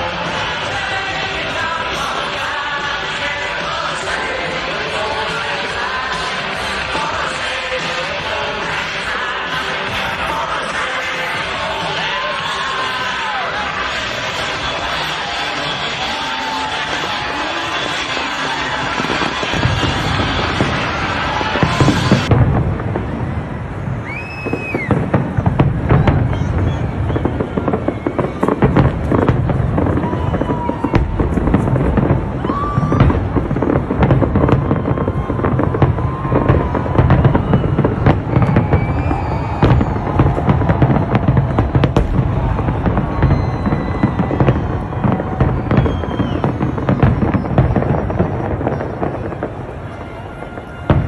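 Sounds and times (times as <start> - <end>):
music: 0.0 - 22.3, 24.9 - 49.6
fireworks bangs and crackles: 0.0 - 51.0
low rumble of fireworks bursts: 0.0 - 51.0.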